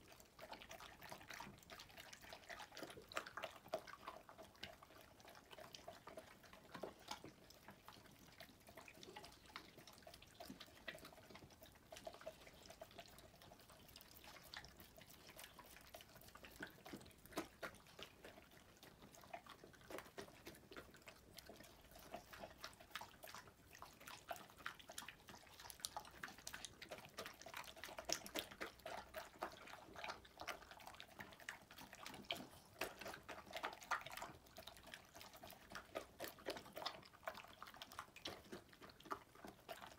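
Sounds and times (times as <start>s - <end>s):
dogs eating from bowls: 0.0s - 39.9s.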